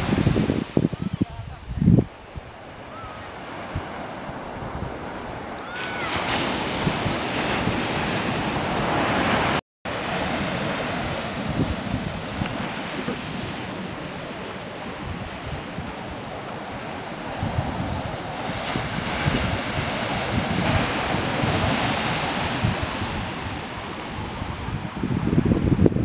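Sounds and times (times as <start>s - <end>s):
surf washing up a sandy beach: 0.0s - 26.0s
wind rumbling on microphone: 0.0s - 26.0s.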